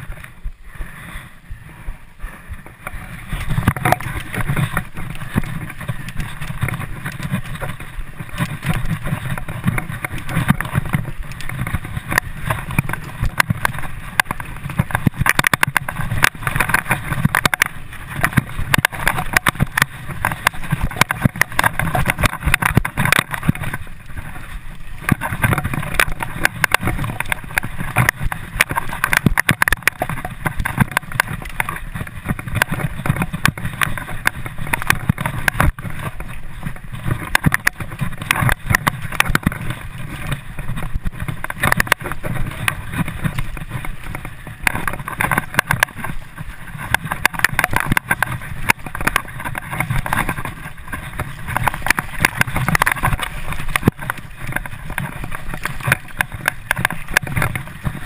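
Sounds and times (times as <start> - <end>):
tyre and wind rush: 0.0 - 58.0.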